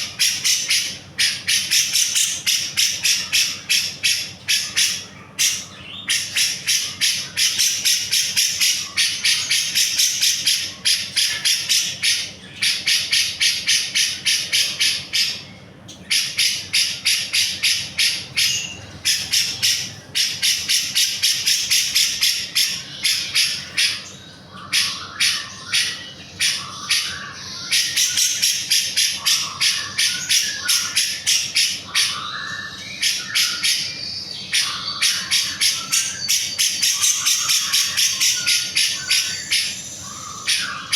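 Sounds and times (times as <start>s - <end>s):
bird singing rapid sharp notes: 0.0s - 40.9s.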